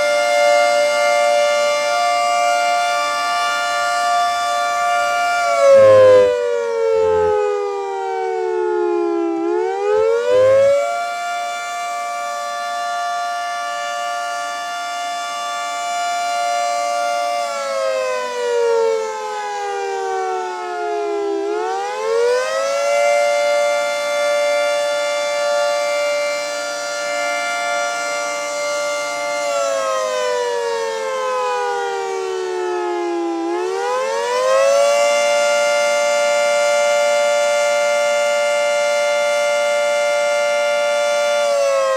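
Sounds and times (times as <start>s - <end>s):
three-tone warning siren: 0.0s - 41.9s.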